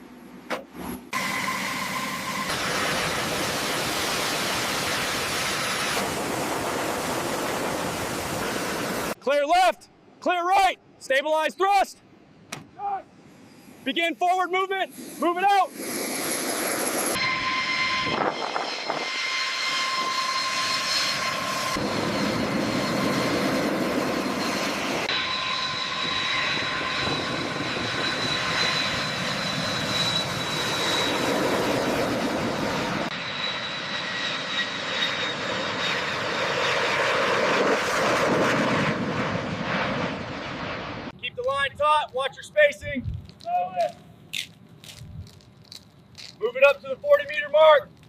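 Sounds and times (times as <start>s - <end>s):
aircraft engines whining: 0.0s - 9.2s, 12.1s - 48.0s.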